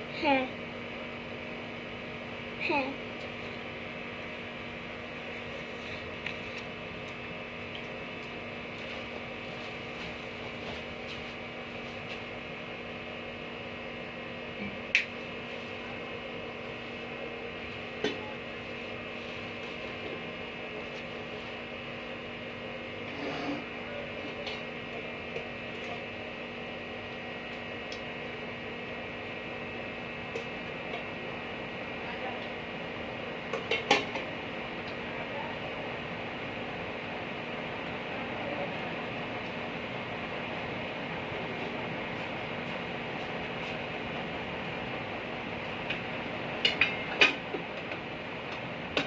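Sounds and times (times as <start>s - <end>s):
electric fan humming: 0.0s - 49.0s.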